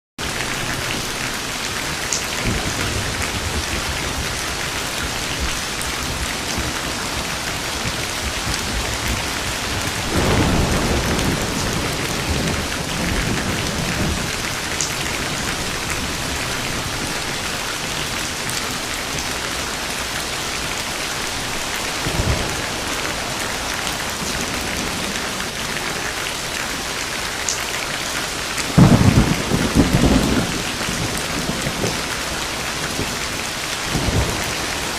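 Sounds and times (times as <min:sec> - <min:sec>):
heavy rain falling: 0:00.2 - 0:34.9
thunder rumbling: 0:00.4 - 0:34.9.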